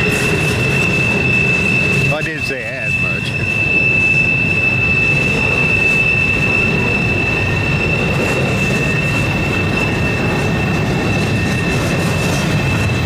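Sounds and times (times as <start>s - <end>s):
train wheels rumbling on rails: 0.0s - 13.0s
wheel flanges squealing: 0.0s - 13.0s.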